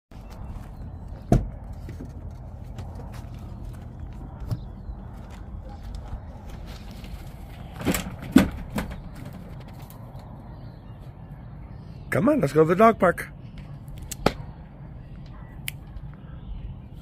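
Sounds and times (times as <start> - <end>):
steady low rumble: 0.1 - 12.1, 13.2 - 17.0.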